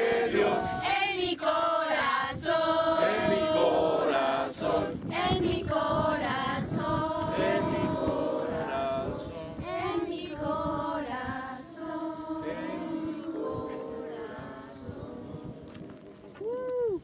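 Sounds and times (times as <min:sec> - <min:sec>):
group singing in chorus: 0:00.0 - 0:16.3.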